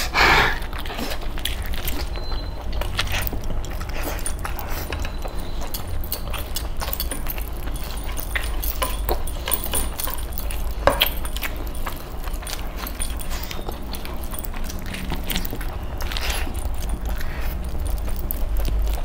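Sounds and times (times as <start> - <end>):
chewing: 0.0 - 19.0
low steady hum: 0.0 - 19.0
fingers squelching through gravy: 0.6 - 19.0
bracelets and rings jingling: 1.9 - 19.0.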